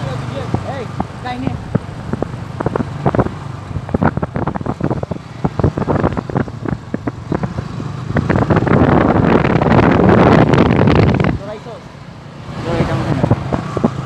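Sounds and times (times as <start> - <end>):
wind buffeting microphone: 0.0 - 11.6, 12.5 - 14.0
motorcycle riding: 0.0 - 14.0.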